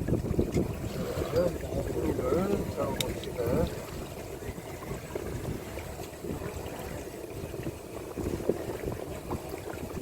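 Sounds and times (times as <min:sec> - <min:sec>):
boat engine rumble: 0:00.0 - 0:10.0
water washing against boat: 0:00.0 - 0:10.0
wind on microphone: 0:00.0 - 0:10.0.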